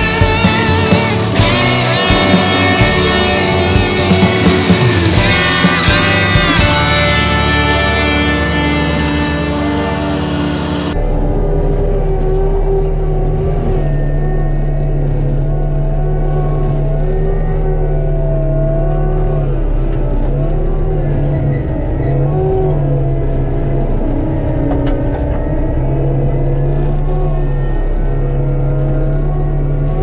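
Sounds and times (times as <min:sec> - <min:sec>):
diesel engine drone: 0:00.0 - 0:30.0
wavering hydraulic whine: 0:00.0 - 0:30.0.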